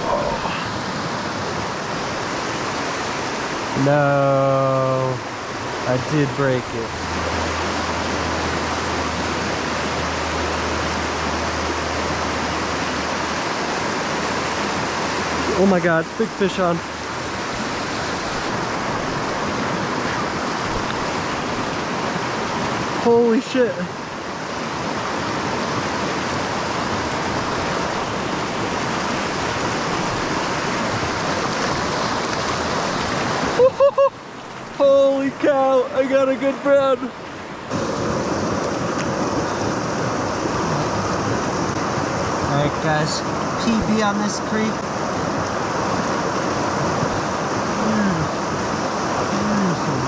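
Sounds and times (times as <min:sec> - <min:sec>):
creek water rushing: 0:00.0 - 0:50.0.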